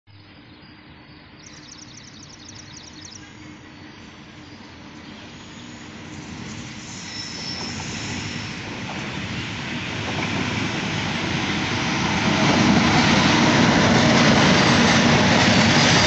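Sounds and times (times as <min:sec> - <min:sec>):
freight train low rumble: 0:00.1 - 0:16.0.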